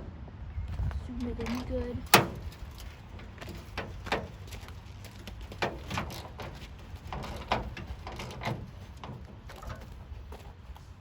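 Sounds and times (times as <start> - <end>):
irregular knocks and clunks: 1.5 - 10.6.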